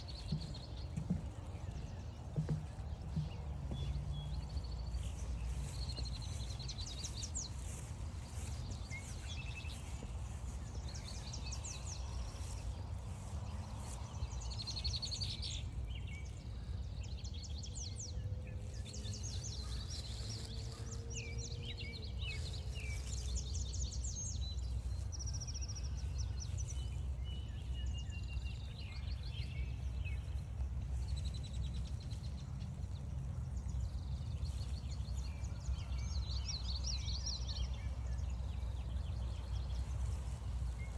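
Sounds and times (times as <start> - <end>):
songbirds singing and calling: 0.0 - 40.9
steady low rumble: 0.0 - 40.9.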